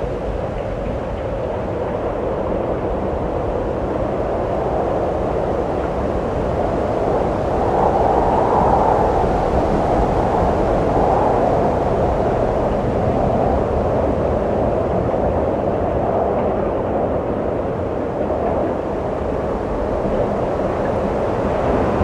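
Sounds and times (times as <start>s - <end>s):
wind blowing in low roar: 0.0s - 22.0s.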